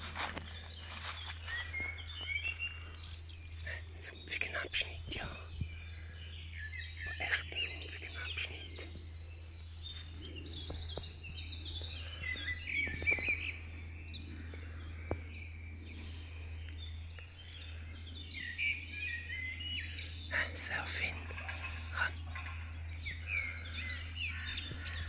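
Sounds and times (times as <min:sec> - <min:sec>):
low background rumble: 0:00.0 - 0:25.0
songbirds singing: 0:00.0 - 0:25.0.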